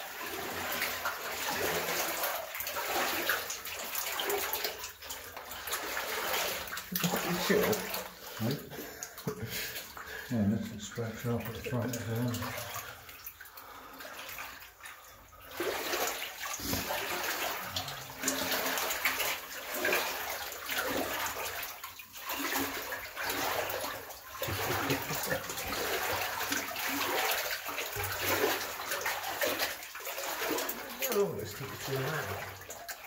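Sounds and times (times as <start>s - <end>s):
boots sloshing through water: 0.0s - 33.0s.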